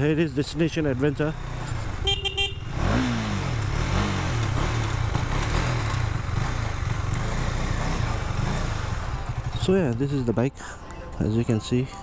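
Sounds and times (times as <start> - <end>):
motorcycle engine at low revs: 0.0 - 10.4.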